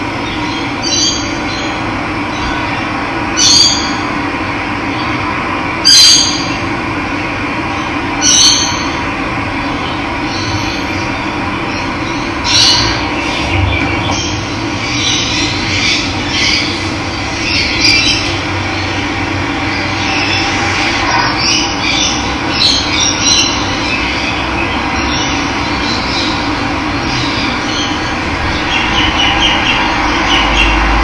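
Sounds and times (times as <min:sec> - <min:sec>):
birds calling and squawking: 0:00.0 - 0:04.1, 0:08.2 - 0:09.0, 0:09.6 - 0:31.0.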